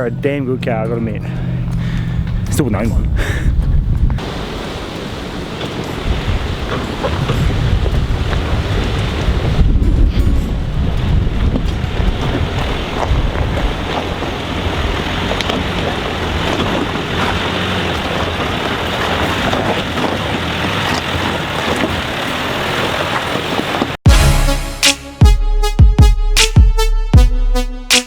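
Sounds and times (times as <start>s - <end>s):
vehicle engine climbing: 0.0s - 25.3s
wind buffeting microphone: 1.4s - 24.0s.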